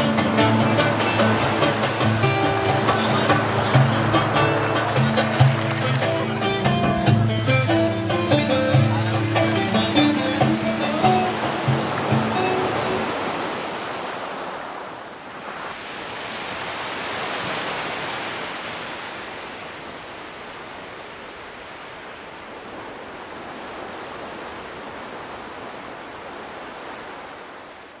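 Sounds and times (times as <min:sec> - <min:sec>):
sea surf washing onto beach: 0:00.0 - 0:28.0.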